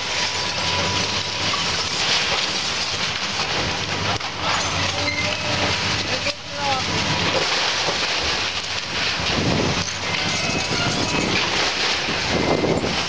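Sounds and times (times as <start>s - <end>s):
excavator diesel engine humming: 0.0s - 13.0s
timber and debris crashing down: 0.0s - 13.0s.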